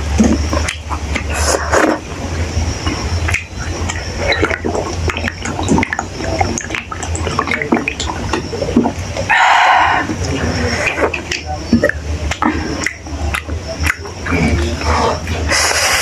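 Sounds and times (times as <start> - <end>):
steady low hum: 0.0 - 16.0
wet chewing mouth sounds: 0.0 - 16.0.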